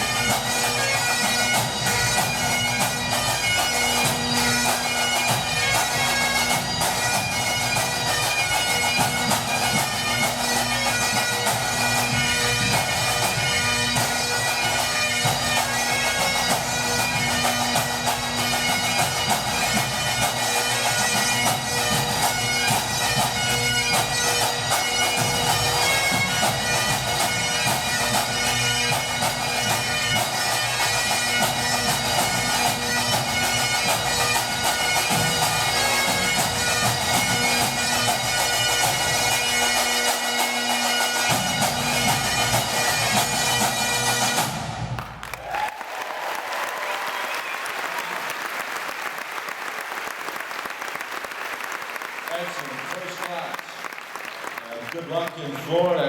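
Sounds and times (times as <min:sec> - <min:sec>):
bagpipe drones: 0:00.0 - 0:45.2
bagpipes playing a fast tune: 0:00.0 - 0:45.2, 0:52.2 - 0:56.0.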